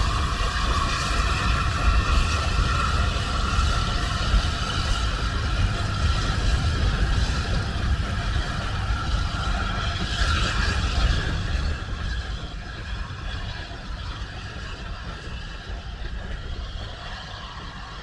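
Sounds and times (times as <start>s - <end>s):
vehicle running rumble: 0.0s - 17.5s.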